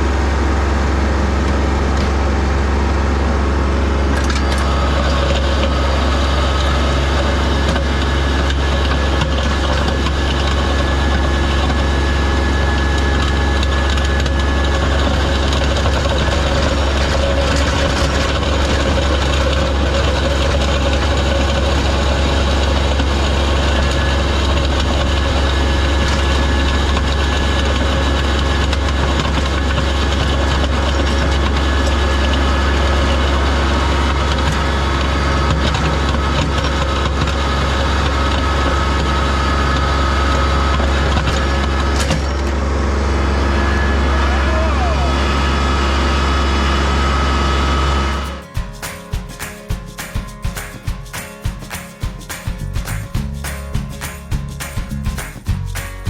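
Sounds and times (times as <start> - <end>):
tractor diesel engine running: 0.0 - 49.4, 52.1 - 56.0.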